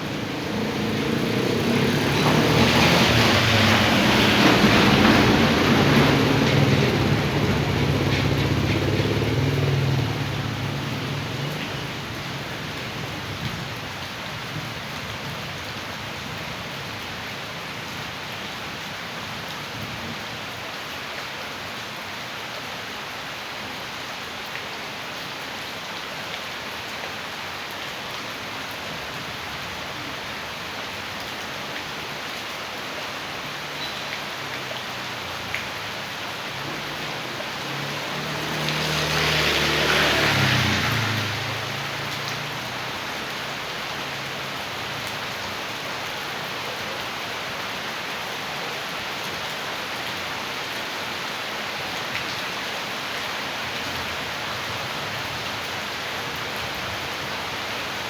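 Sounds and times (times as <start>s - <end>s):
rainwater running: 0.0s - 22.6s, 23.2s - 58.0s
heavy rain: 0.0s - 58.0s
vehicle passing on wet road: 0.0s - 58.0s.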